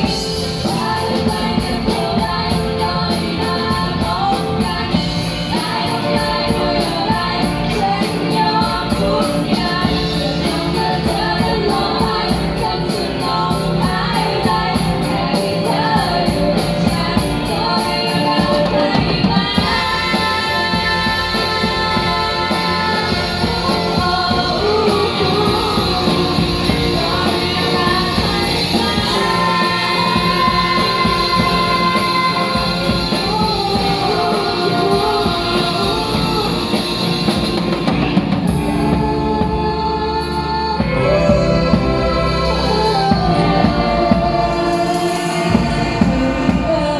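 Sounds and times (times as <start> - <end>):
drums beating: 0.0 - 46.9
electric guitar: 0.0 - 46.9
person singing: 0.0 - 46.9.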